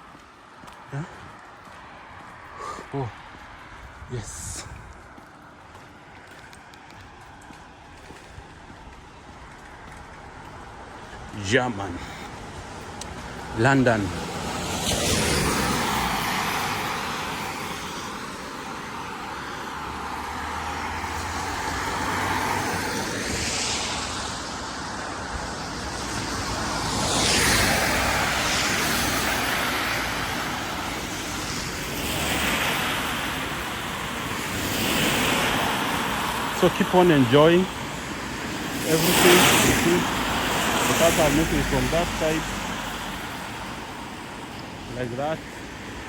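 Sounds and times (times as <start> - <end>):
cars passing by: 0.0 - 46.0.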